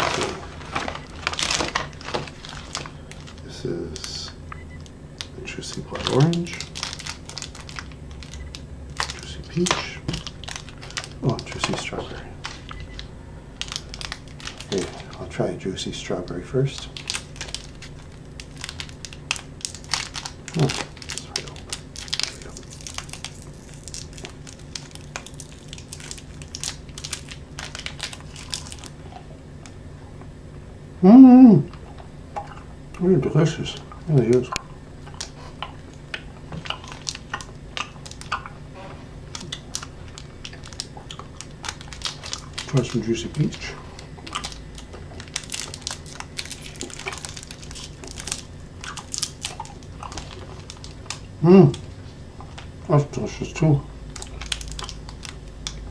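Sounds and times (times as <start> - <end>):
candy wrapper crinkling: 0.0 - 29.8, 33.1 - 55.9.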